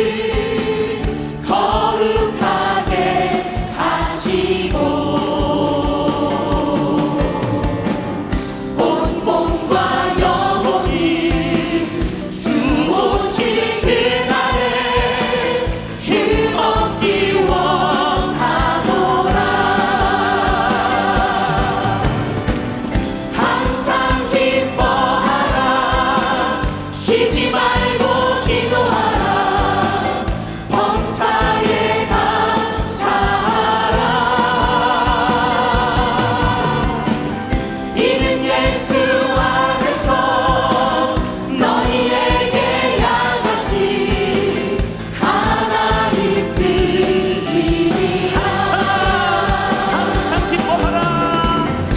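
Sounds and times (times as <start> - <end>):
choir and congregation singing a hymn: 0.0 - 51.9
instrumental accompaniment: 0.0 - 51.9.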